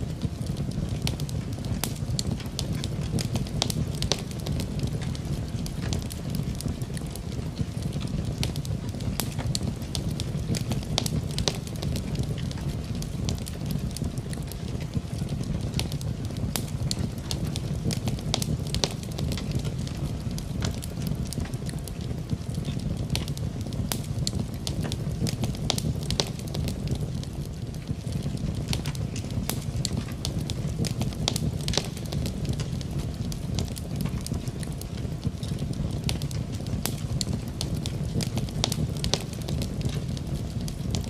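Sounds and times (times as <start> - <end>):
fire pops and snaps: 0.0 - 41.0
wood fire crackling: 0.0 - 41.0.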